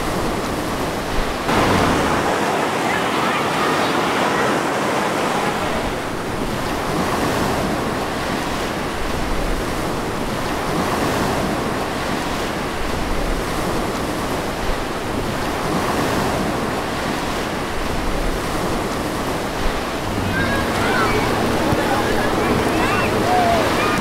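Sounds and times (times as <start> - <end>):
waves breaking: 0.0 - 24.0.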